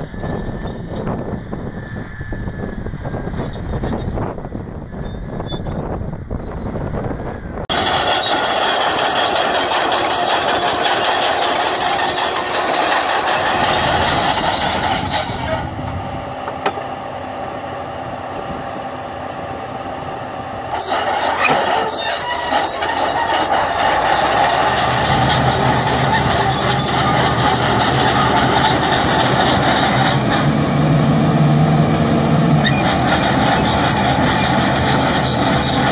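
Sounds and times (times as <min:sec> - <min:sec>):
steel tracks clanking: 0:00.0 - 0:17.1, 0:20.1 - 0:35.9
diesel engine running: 0:07.0 - 0:35.9.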